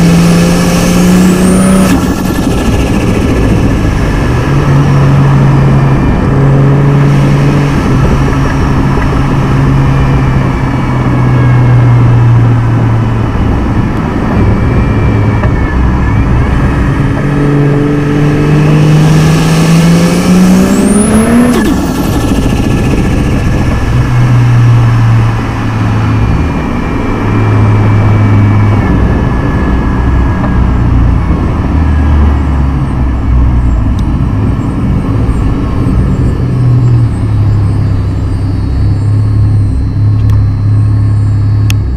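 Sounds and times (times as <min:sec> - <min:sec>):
car engine cruising and accelerating: 0:00.0 - 0:41.9.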